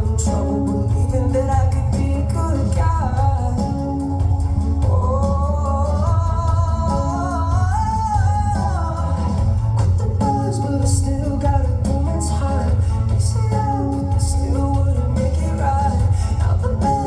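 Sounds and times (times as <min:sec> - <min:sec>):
bass: 0:00.0 - 0:17.0
drumbeat: 0:00.0 - 0:17.0
man singing: 0:00.0 - 0:17.0.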